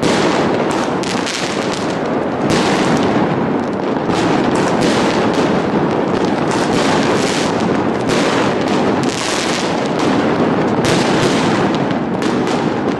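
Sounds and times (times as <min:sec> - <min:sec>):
fireworks bangs and crackling: 0:00.0 - 0:12.9.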